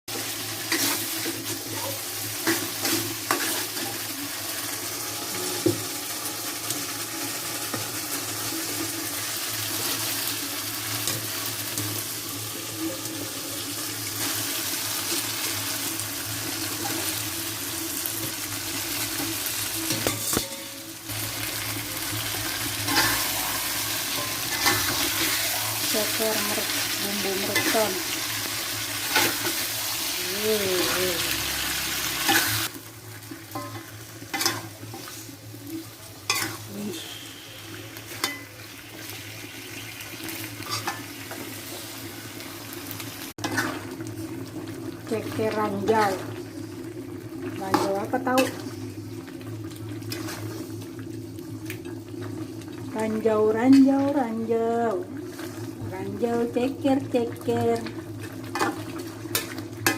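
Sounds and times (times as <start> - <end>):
food sizzling in a pan: 0.1 - 59.9.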